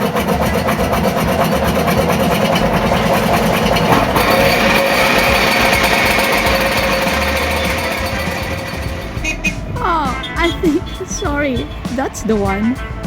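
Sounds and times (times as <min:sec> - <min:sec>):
high whine: 0:00.0 - 0:12.2
small engine running: 0:00.0 - 0:12.5.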